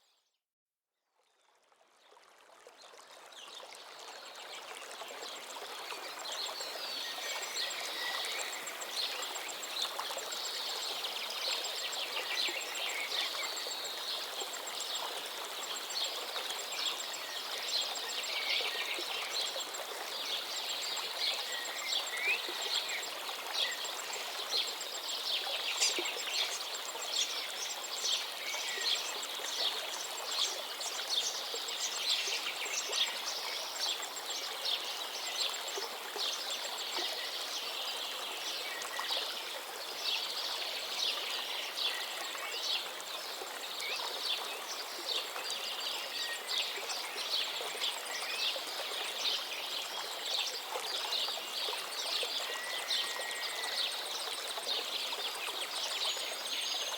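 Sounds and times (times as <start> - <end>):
flowing water rushing: 1.9 - 56.9.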